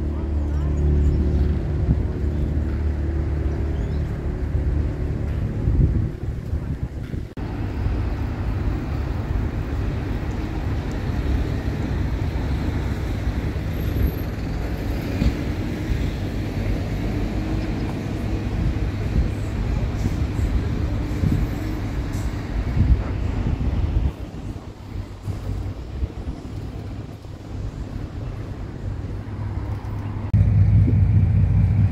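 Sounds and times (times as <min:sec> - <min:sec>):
low outdoor rumble: 0:00.0 - 0:31.9.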